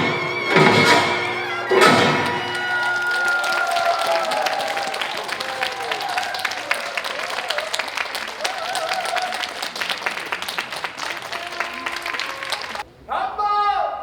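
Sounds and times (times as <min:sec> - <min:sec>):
audience applauding: 0:00.0 - 0:12.8
voices calling out: 0:00.0 - 0:13.4.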